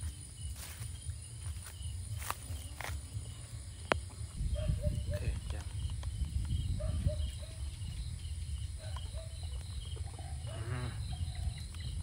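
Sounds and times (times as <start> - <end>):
insects chirping in high trills: 0.0 - 12.0.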